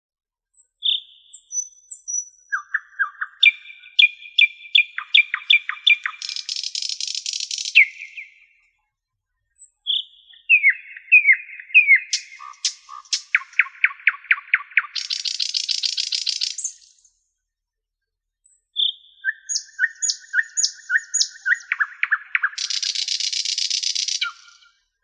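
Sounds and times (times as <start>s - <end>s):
songbird singing: 0.6s - 8.7s, 9.5s - 17.1s, 18.5s - 24.8s.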